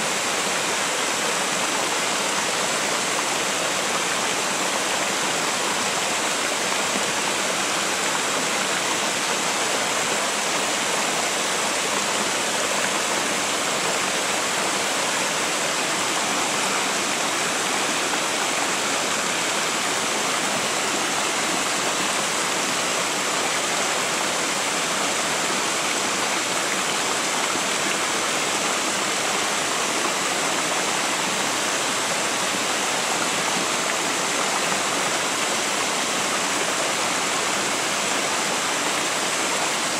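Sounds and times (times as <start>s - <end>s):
river water rushing over weir: 0.0s - 39.9s.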